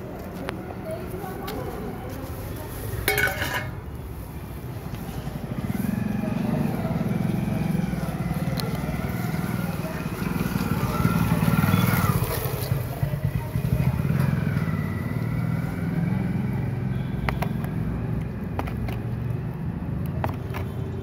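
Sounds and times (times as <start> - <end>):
motorcycle engine rumbling: 0.8 - 21.0.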